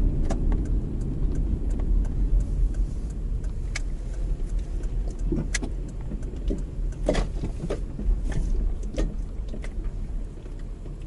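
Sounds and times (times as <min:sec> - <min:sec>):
sharp clicks and knocks: 0:00.0 - 0:11.0.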